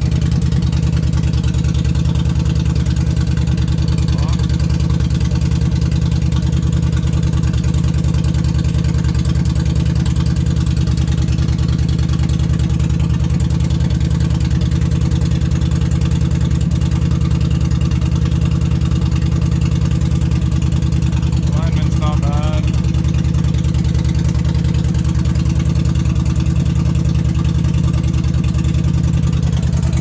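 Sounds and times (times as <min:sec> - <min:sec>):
motorcycle engine idling loudly: 0:00.0 - 0:30.0.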